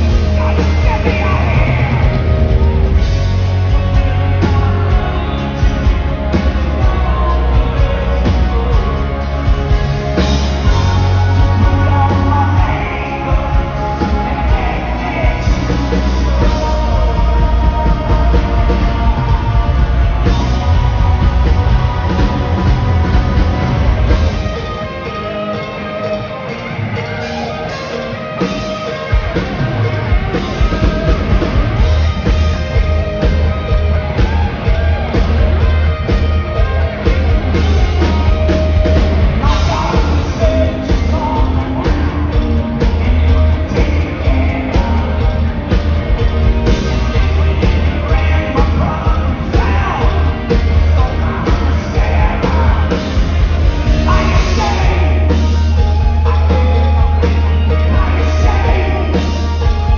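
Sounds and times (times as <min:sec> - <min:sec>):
bass guitar: 0:00.0 - 0:59.9
drums: 0:00.0 - 0:59.9
electric guitar: 0:00.0 - 0:59.9
person singing lead vocal: 0:00.0 - 0:59.9.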